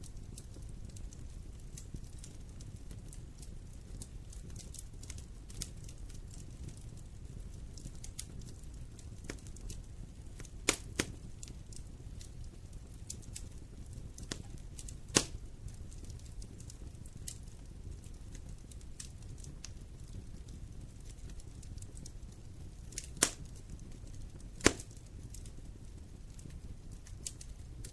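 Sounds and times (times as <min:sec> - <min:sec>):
wood fire crackling: 0:00.0 - 0:27.9
fire pops: 0:00.1 - 0:27.9.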